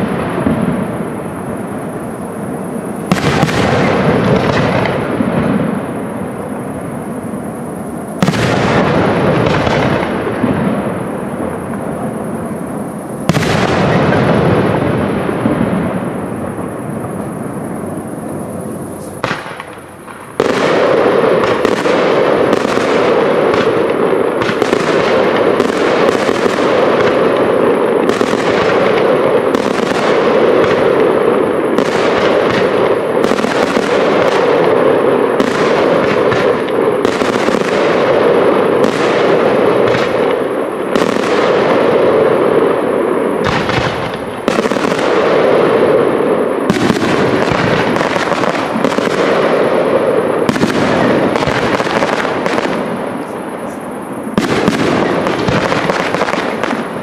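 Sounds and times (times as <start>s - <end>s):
fireworks bursts and crackle: 0.0s - 57.0s.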